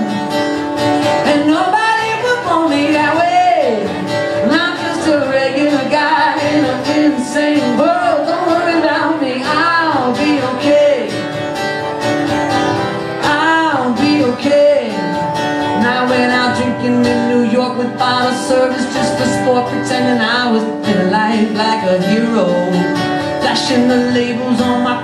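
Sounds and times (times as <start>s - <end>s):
man singing: 0.0s - 11.3s, 13.2s - 25.0s
acoustic guitar: 0.0s - 25.0s.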